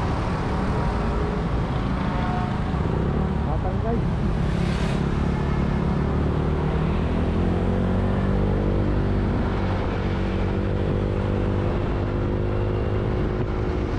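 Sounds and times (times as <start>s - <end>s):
road and wind rumble: 0.0s - 13.9s.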